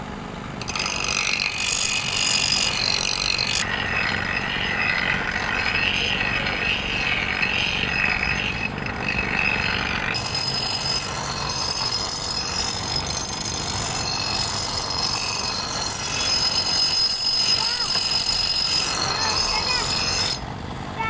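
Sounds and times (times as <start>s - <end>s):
grinder wheel grinding steel: 0.6s - 20.5s.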